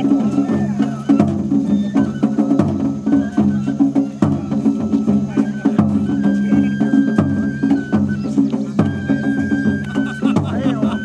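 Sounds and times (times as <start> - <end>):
high bamboo flute: 0.0 - 11.0
taiko drums: 0.0 - 11.0.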